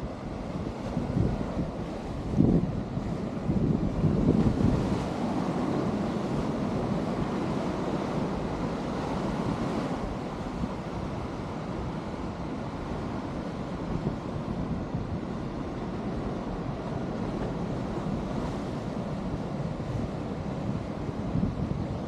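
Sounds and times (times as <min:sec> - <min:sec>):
sea surf breaking over rocks: 0:00.0 - 0:22.0
wind buffeting microphone: 0:00.0 - 0:22.0.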